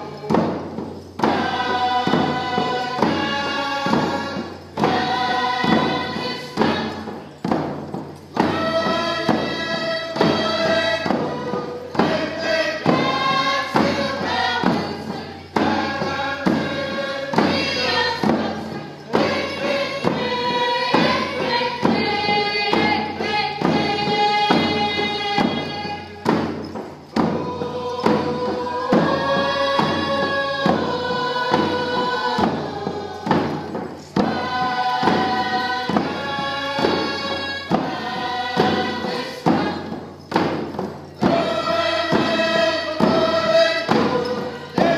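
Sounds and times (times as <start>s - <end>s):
group of voices singing: 0.0s - 44.9s
hand drums beating: 0.0s - 44.9s.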